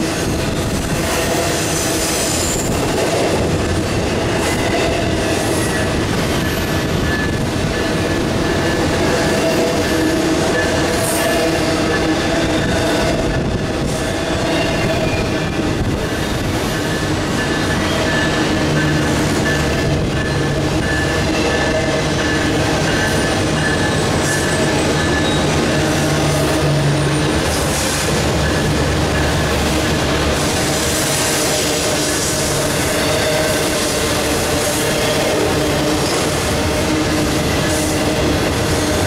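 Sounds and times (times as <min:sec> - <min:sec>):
steel wheels rumbling on rail: 0:00.0 - 0:39.0.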